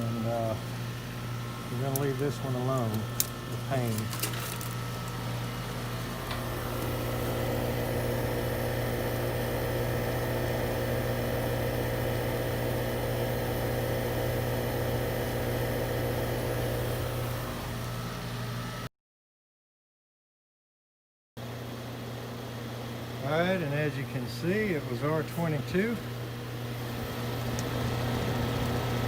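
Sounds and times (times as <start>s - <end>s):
air conditioner unit humming: 0.0s - 18.9s, 21.4s - 29.0s.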